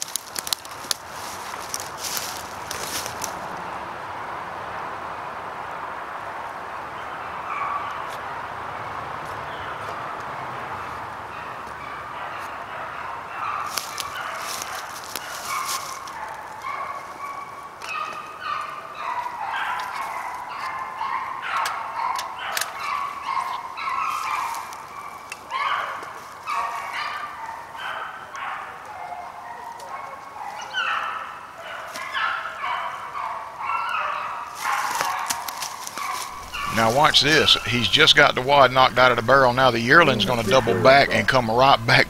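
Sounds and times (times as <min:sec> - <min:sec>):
hounds baying: 0:07.0 - 0:08.2, 0:09.5 - 0:42.0.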